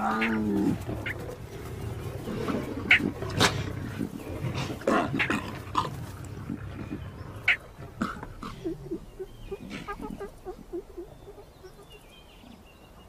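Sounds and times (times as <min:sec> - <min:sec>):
lionesses snarling and growling: 0:00.0 - 0:13.0.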